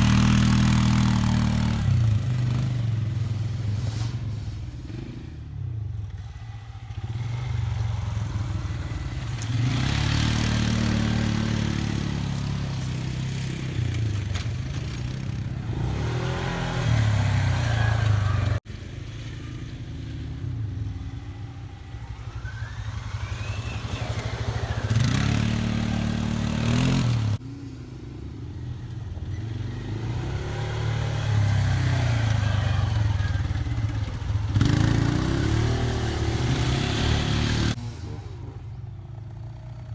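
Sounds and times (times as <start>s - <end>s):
off-road engines revving: 0.0s - 39.9s.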